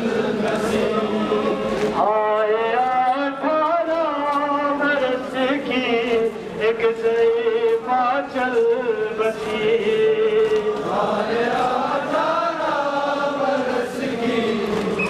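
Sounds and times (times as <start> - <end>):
men chanting a mourning lament: 0.0 - 15.0.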